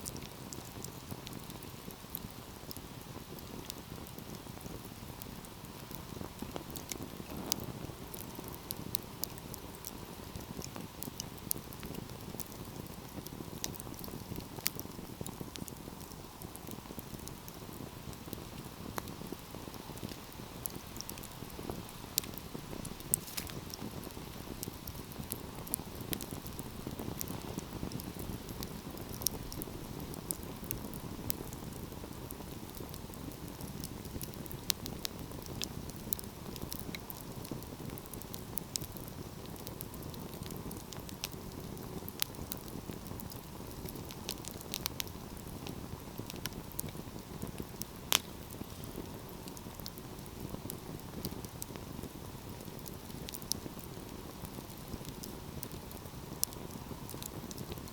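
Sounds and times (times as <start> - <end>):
fire crackles and pops: 0.0 - 57.9
low rush of flames: 0.0 - 57.9.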